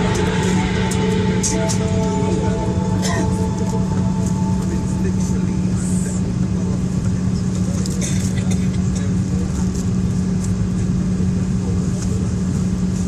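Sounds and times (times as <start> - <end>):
airliner cabin engine hum: 0.0 - 13.0.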